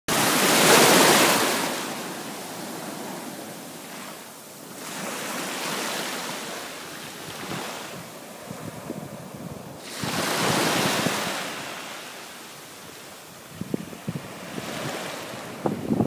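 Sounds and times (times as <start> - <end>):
surf washing over sand: 0.1 - 16.0.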